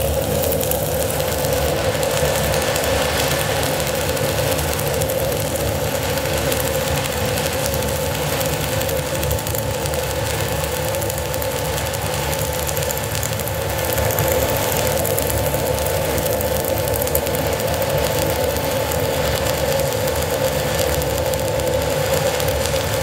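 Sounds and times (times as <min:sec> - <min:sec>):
welding arc crackling: 0:00.0 - 0:23.0.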